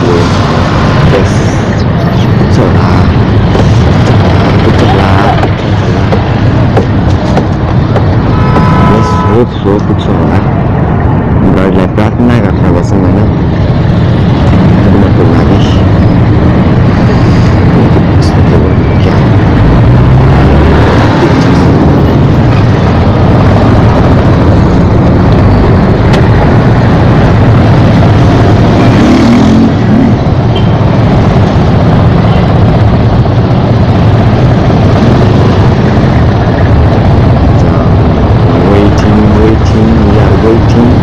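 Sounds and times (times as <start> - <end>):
motorcycle engines in traffic: 0.0 - 41.0.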